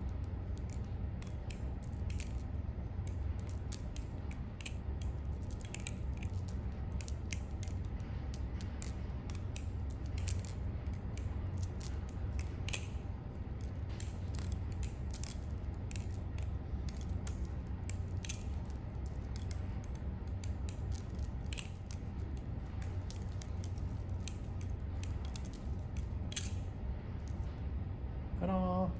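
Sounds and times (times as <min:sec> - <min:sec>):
butterfly knife clicking: 0:00.1 - 0:26.7.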